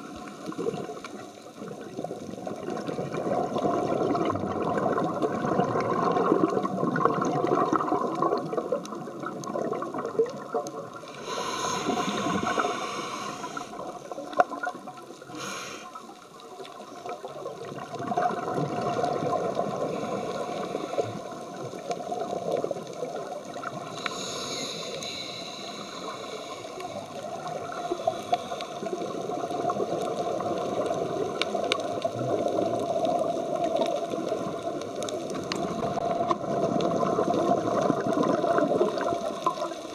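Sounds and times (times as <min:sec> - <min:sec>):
scuba bubbles rushing: 0:00.0 - 0:15.3, 0:17.0 - 0:24.0, 0:24.8 - 0:39.9
underwater water noise: 0:00.0 - 0:39.9.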